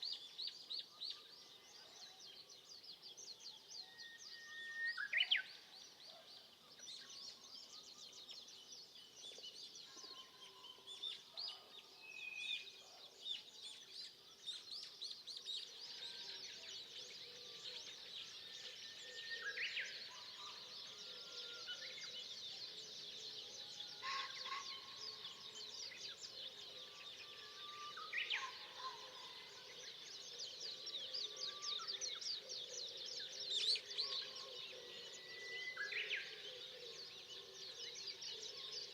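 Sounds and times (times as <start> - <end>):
birds chirping chorus: 0.0 - 38.9.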